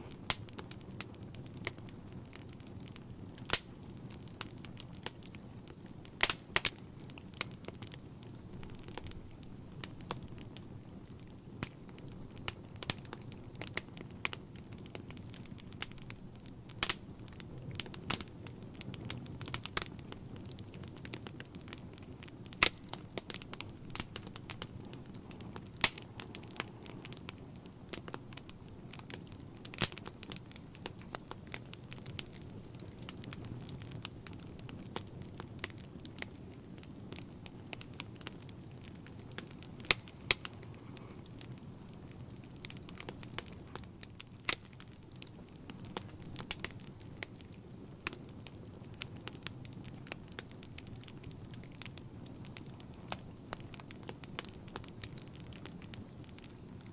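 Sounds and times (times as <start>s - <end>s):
low rumble of flames: 0.0s - 56.9s
wood fire crackling and popping: 0.0s - 56.9s.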